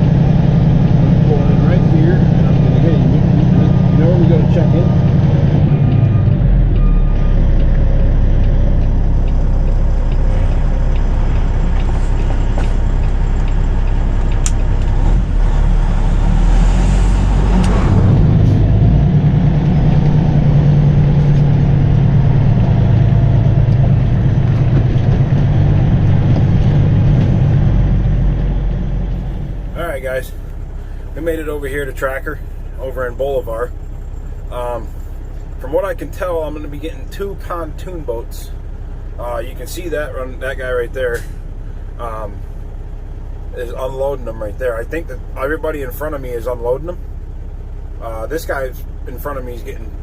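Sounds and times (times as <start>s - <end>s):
truck diesel engine running: 0.0s - 50.0s.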